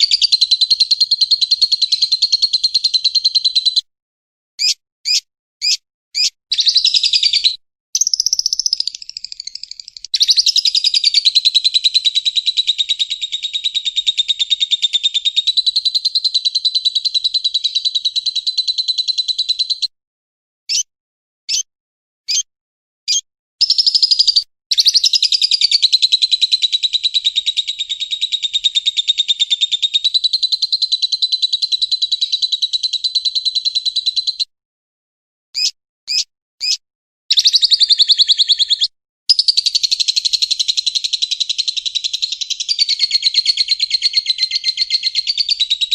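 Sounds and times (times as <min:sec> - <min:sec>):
bird high trilling chatter: 0:00.0 - 0:03.8, 0:04.6 - 0:19.9, 0:20.7 - 0:20.9, 0:21.5 - 0:21.7, 0:23.1 - 0:34.5, 0:35.6 - 0:45.9
bird sharp chirps: 0:00.0 - 0:03.9, 0:04.6 - 0:19.9, 0:20.7 - 0:20.9, 0:21.5 - 0:21.7, 0:22.3 - 0:22.5, 0:23.1 - 0:34.5, 0:35.6 - 0:45.9.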